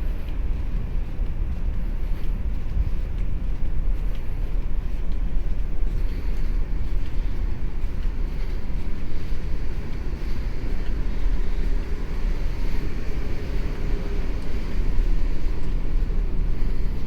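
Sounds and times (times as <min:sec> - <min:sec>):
ferry engine drone: 0:00.0 - 0:17.0.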